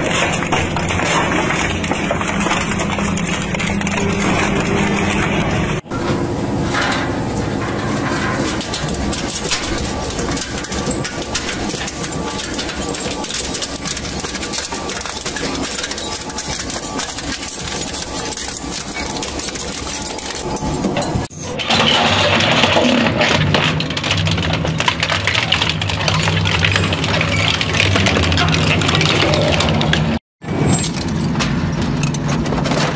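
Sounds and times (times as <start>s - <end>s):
shredder crunching and grinding metal: 0.0s - 32.9s.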